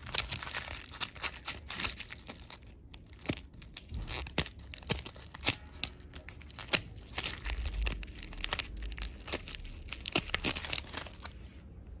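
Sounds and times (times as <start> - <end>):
dry crackling rustle of seeds: 0.0 - 11.5.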